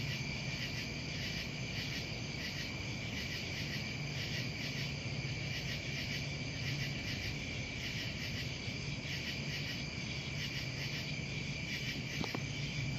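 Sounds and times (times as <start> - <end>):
crickets trilling: 0.0 - 12.9.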